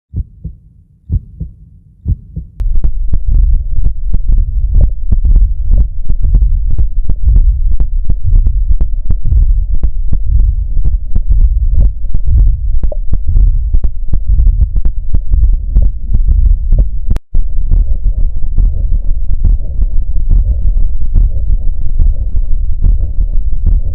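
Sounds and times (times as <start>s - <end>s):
heartbeat through stethoscope: 0.1s - 23.9s
low rumble: 0.1s - 23.9s.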